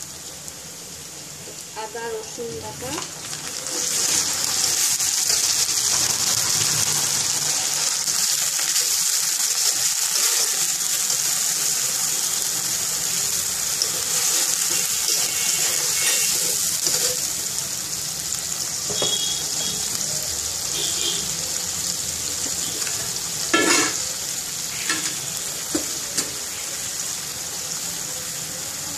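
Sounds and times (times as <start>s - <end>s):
onions sizzling in hot oil: 0.0s - 28.9s.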